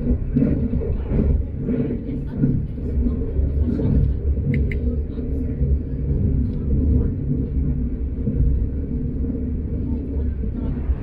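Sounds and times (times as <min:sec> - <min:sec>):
train running gear rumble: 0:00.0 - 0:11.0.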